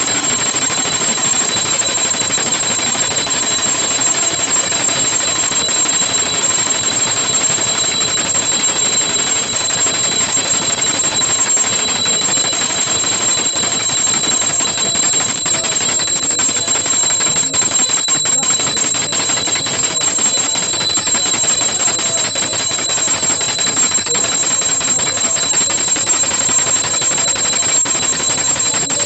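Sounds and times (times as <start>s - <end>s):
hand bell rung rapidly: 0.0s - 29.0s.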